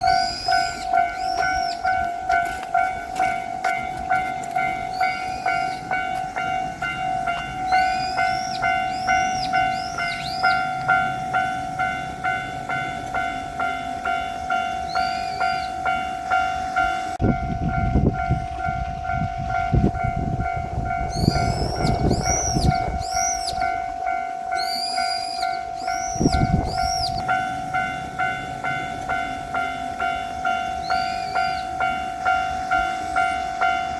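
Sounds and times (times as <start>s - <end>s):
diesel train rumbling: 0.0s - 33.9s
level crossing bell ringing: 0.0s - 33.9s.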